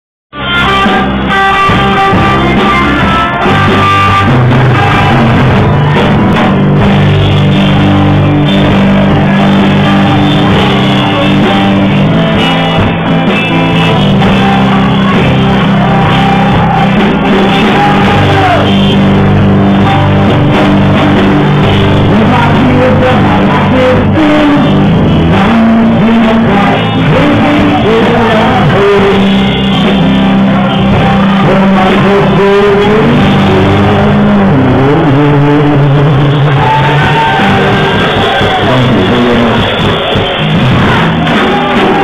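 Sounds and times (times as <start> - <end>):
bass guitar: 0.3 - 42.0
electric guitar: 0.3 - 42.0
drums and cymbals: 0.4 - 34.4, 35.7 - 42.0.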